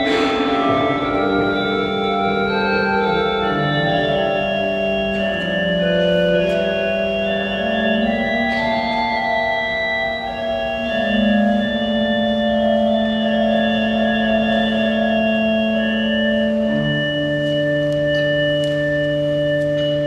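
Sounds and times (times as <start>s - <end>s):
pipe organ playing: 0.0s - 20.0s.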